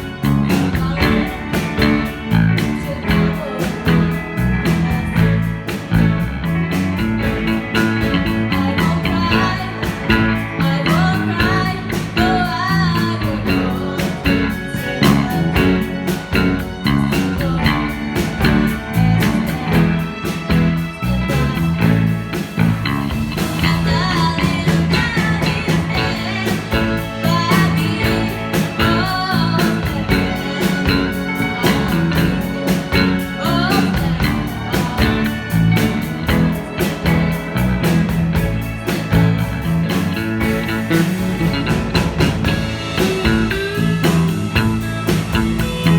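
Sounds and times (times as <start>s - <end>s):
person singing: 0.0s - 6.2s, 7.2s - 22.2s, 22.9s - 45.9s
rock band music: 0.0s - 45.9s.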